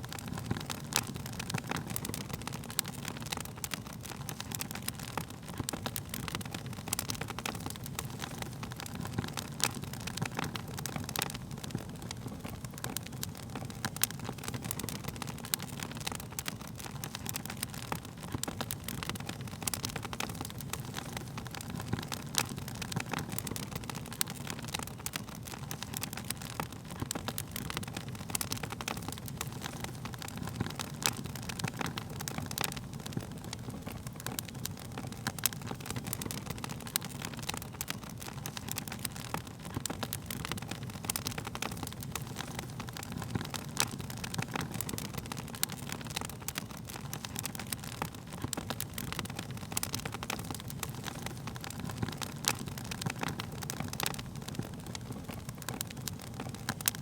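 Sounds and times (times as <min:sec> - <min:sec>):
burning wood crackling and popping: 0:00.0 - 0:57.0.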